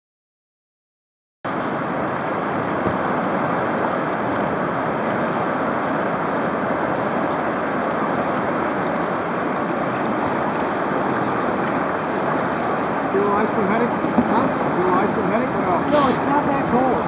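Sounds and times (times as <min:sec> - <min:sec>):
river rapids rushing: 0:01.5 - 0:17.0.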